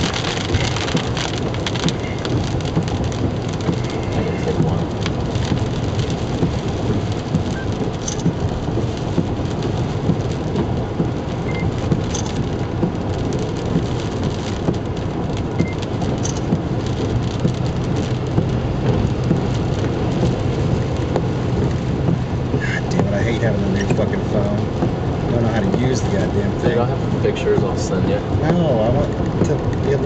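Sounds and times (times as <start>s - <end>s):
rain pattering on a car: 0.0s - 30.0s
tyre and road noise: 0.0s - 30.0s.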